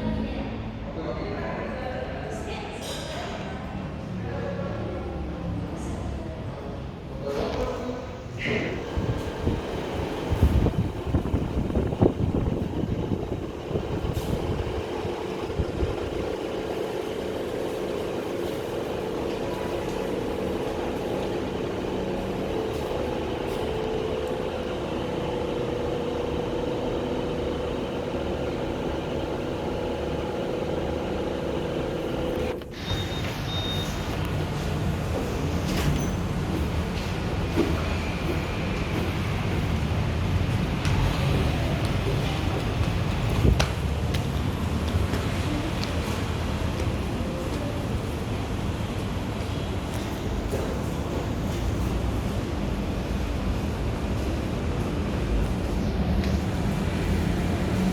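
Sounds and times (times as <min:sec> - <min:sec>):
air conditioner humming: 0:00.0 - 0:57.9
steady machine noise: 0:08.6 - 0:57.9.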